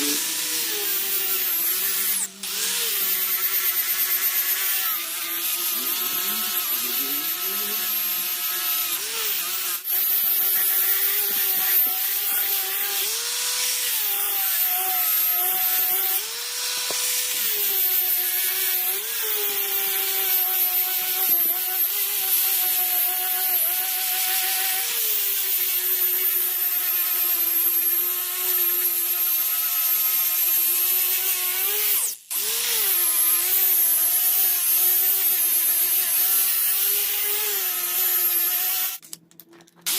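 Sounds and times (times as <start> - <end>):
power tool whining: 0.0 - 39.1.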